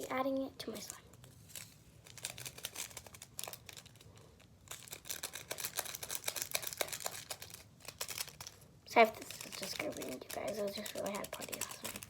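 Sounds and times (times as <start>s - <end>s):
glitter crinkling in slime: 0.0s - 12.0s.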